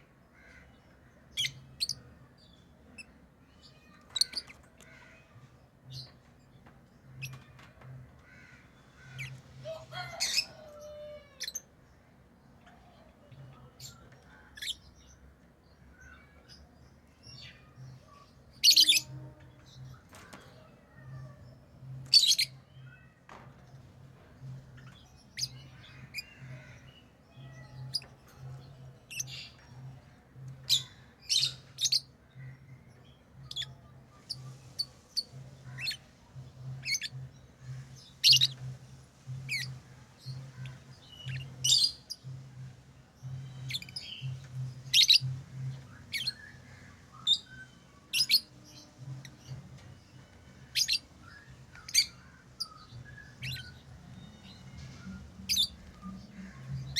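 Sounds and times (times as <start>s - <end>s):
lovebirds chirping and squawking: 0.2s - 56.9s.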